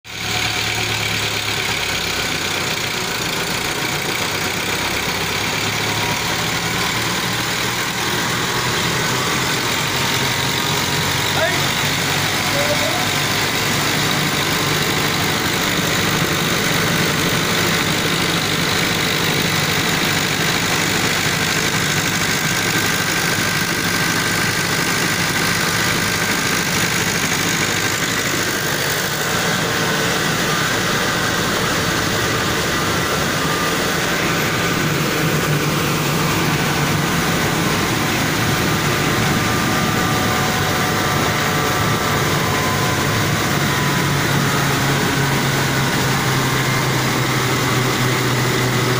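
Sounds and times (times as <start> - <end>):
engine running steadily: 0.1 - 48.9
mill machinery noise: 0.1 - 48.9.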